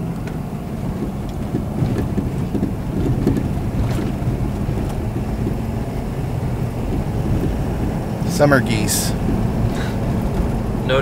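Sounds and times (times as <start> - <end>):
engine and road rumble: 0.0 - 11.0
wind buffeting microphone: 0.0 - 11.0.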